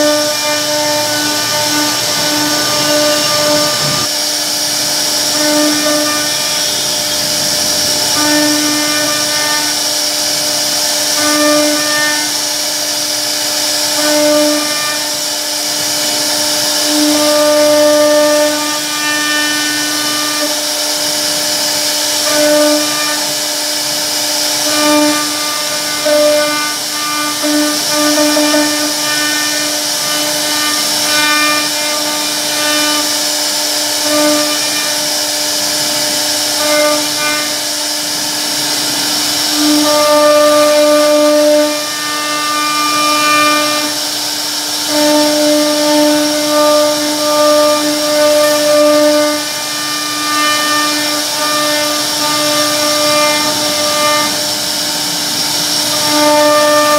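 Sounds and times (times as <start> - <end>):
bit cutting wood: 0.0 - 56.9
router spindle whine: 0.0 - 56.9.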